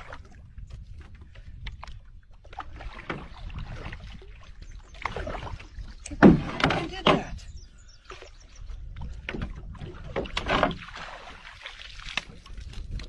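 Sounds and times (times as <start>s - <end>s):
water sounds: 0.0s - 13.0s.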